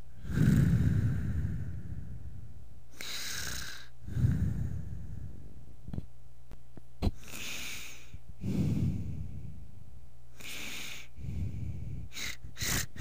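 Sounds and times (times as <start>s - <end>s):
heavy breathing: 0.0s - 5.6s, 7.1s - 9.7s, 10.4s - 13.0s.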